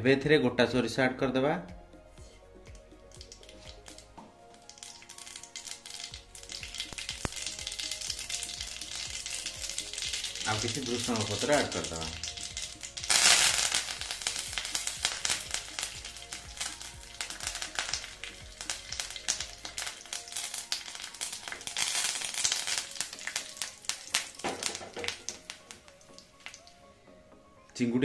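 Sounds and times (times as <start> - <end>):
spices sizzling in hot oil: 2.7 - 26.7
crackling and popping in oil: 2.7 - 26.8.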